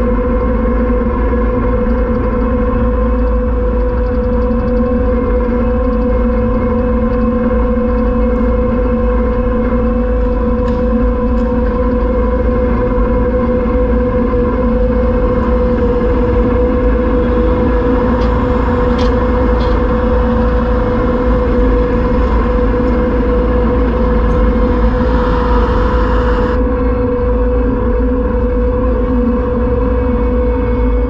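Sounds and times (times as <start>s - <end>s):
diesel engine whining: 3.3s - 31.0s.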